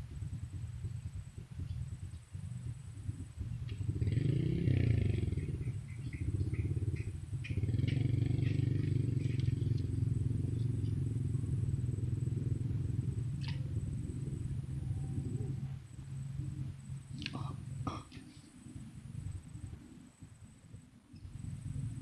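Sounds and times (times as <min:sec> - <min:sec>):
motorcycle rattling: 0:00.0 - 0:22.0
small motorcycle engine revving: 0:02.4 - 0:18.1, 0:18.7 - 0:22.0.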